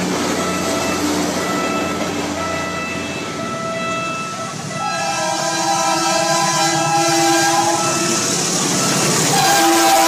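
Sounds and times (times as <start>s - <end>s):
train passing on rails: 0.0s - 10.0s.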